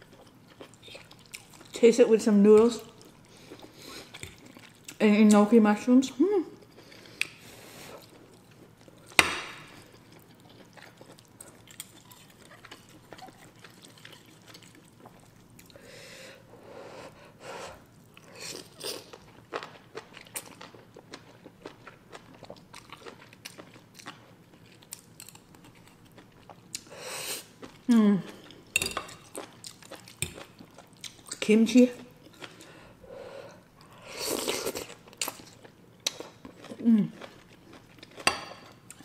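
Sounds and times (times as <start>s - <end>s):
chewing and wet mouth noises: 0.0s - 1.8s, 2.6s - 5.4s, 6.6s - 15.8s, 17.7s - 32.8s, 33.8s - 39.0s.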